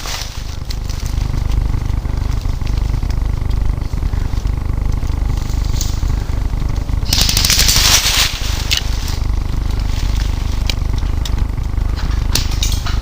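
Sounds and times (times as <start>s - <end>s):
rapid crackling: 0.0s - 13.0s
wind rumble: 0.0s - 13.0s
scattered ticks: 0.4s - 12.8s.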